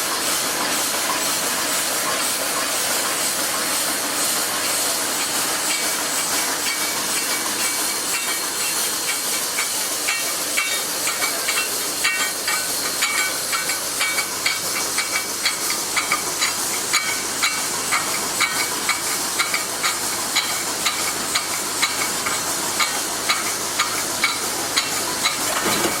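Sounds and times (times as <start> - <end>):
welding machine hiss: 0.0 - 26.0
mechanical clicks and clanks: 4.6 - 26.0.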